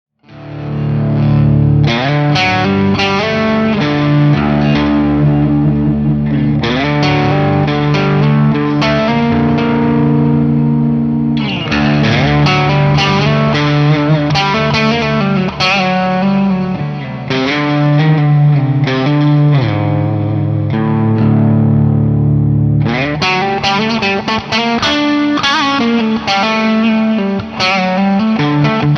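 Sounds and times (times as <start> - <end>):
electric guitar chords and notes: 0.2 - 28.9
guitar slides between chords: 0.3 - 28.9.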